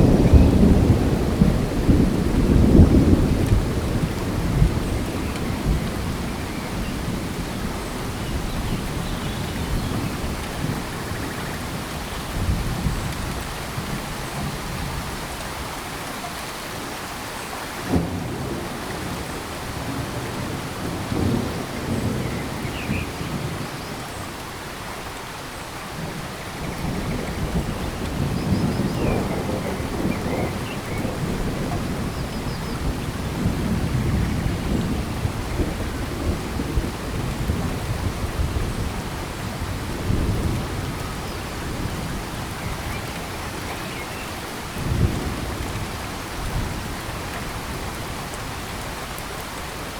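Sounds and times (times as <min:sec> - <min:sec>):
steady rain on forest: 0:00.0 - 0:49.9.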